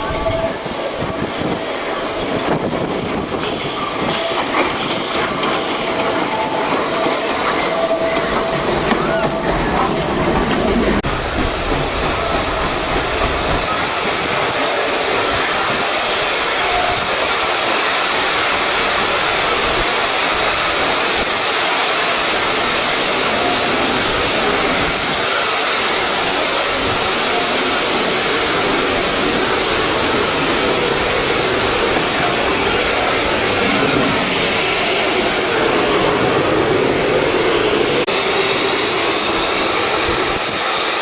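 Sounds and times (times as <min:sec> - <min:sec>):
steam locomotive hissing steam: 0:00.0 - 0:41.0.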